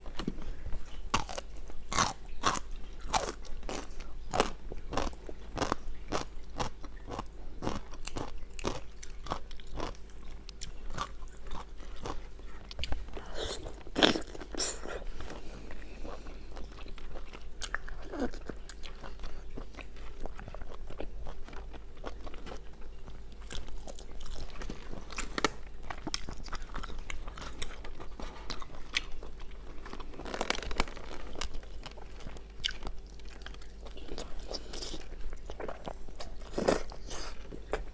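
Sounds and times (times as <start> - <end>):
crunching and chewing crisp food: 0.0 - 37.9.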